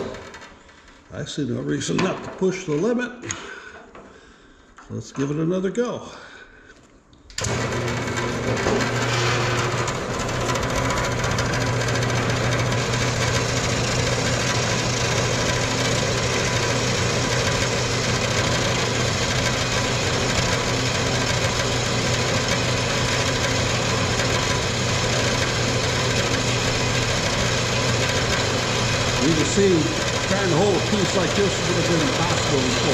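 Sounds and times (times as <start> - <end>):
bandsaw hum: 0.0 - 1.0, 7.4 - 32.9.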